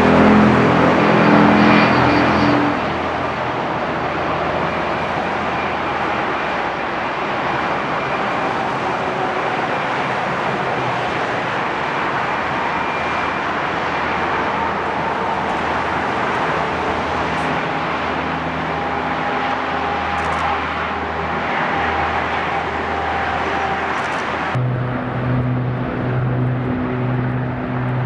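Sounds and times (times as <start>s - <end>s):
vehicle engine noise: 0.0s - 28.0s.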